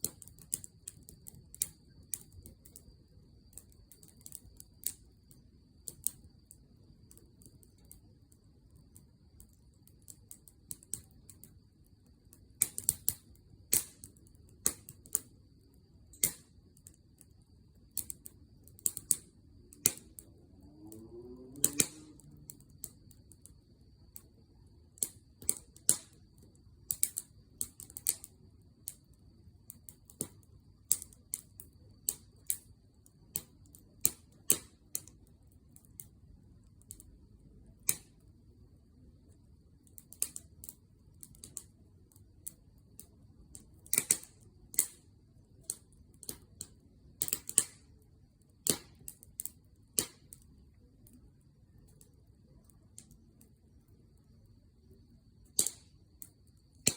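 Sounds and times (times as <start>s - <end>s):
campfire crackling and popping: 0.0s - 38.5s, 39.2s - 53.6s, 55.4s - 56.9s
low rumble of flame: 0.0s - 56.9s.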